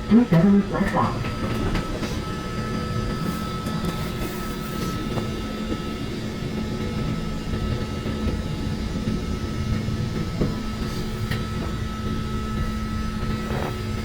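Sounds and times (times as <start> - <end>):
constant low hum: 0.0 - 14.0
train carriage rumbling on track: 0.0 - 14.0.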